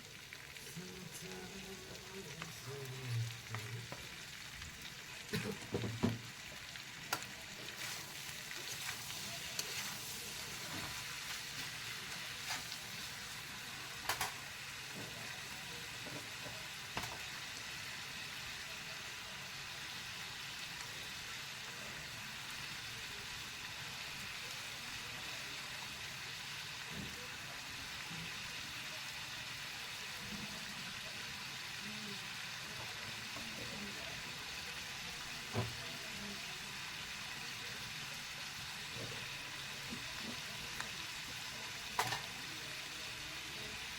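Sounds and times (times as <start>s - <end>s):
chicken sizzling in oil: 0.0s - 43.9s.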